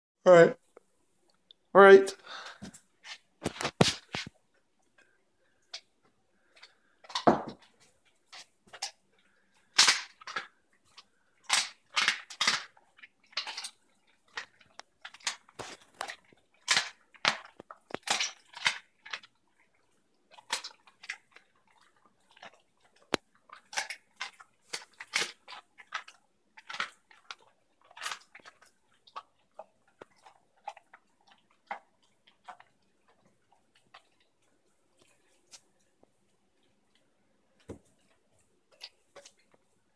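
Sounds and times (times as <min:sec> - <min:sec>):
dog crunching bones: 0:02.4 - 0:39.8.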